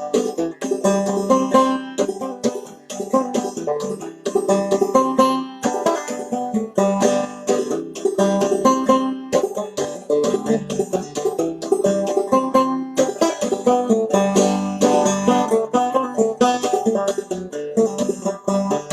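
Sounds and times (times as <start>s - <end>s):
banjo played clawhammer style: 0.0s - 18.9s.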